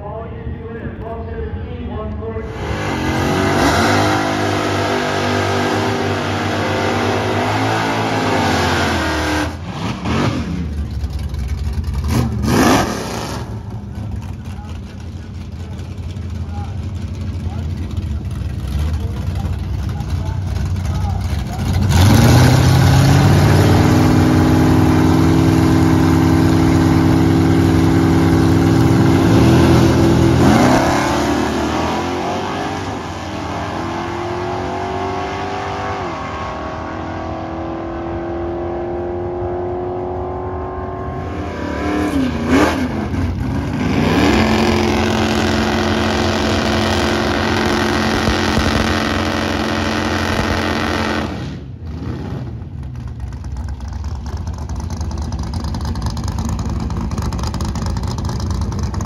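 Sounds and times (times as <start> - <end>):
race car engines idling and revving: 0.0 - 59.0.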